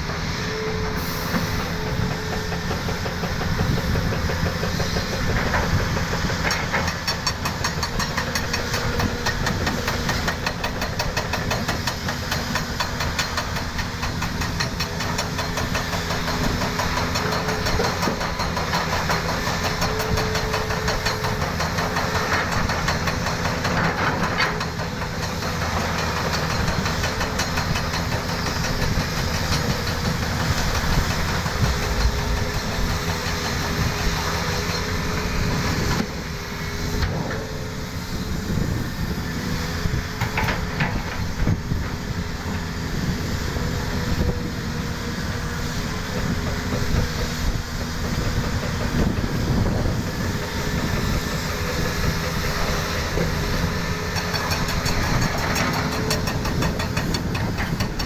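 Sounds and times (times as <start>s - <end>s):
engine running with clatter: 0.0s - 58.0s.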